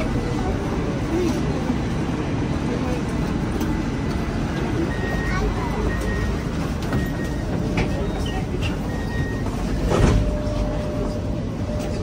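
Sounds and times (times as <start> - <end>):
tram rumble: 0.0 - 12.0
voices: 0.0 - 12.0.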